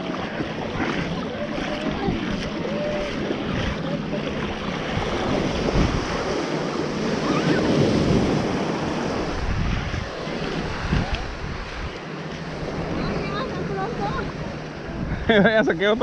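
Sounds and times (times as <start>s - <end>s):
ocean surf washing ashore: 0.0s - 16.0s
wind buffeting microphone: 0.0s - 16.0s.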